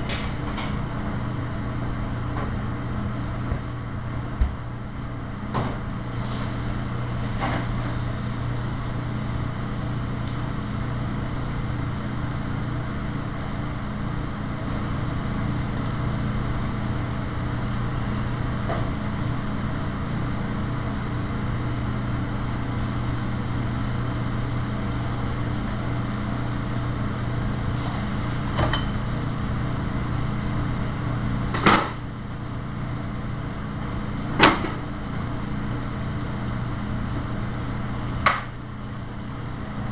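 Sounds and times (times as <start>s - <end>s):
exhaust fan hum: 0.0s - 39.9s.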